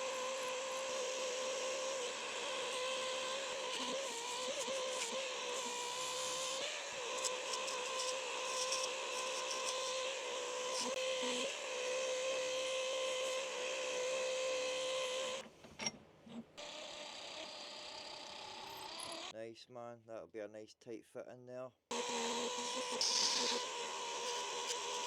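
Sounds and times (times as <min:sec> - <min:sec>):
wood lathe motor humming: 0:00.0 - 0:15.4, 0:16.6 - 0:19.3, 0:21.9 - 0:25.0.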